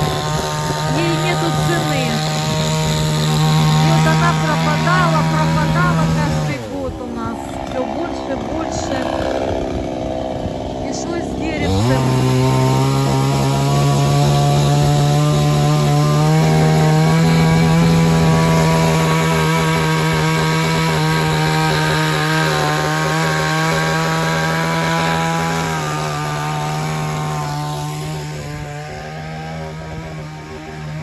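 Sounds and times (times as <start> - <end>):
small engine running at high revs: 0.0 - 31.0.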